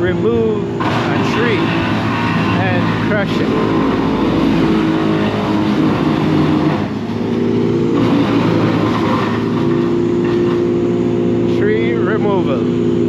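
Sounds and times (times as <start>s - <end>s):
diesel engine of heavy machinery: 0.0s - 13.0s.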